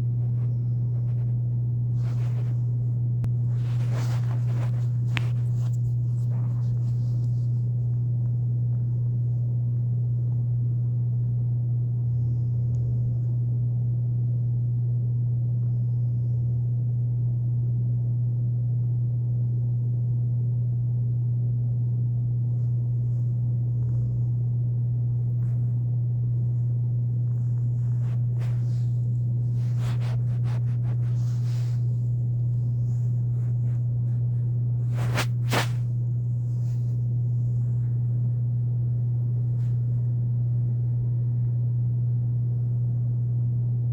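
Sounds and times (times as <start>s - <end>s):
air conditioner humming: 0.0s - 43.9s.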